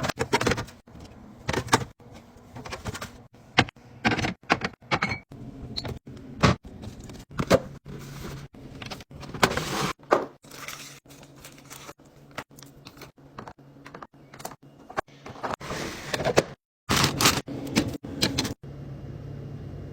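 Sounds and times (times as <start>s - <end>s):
fridge low hum: 0.0s - 19.9s.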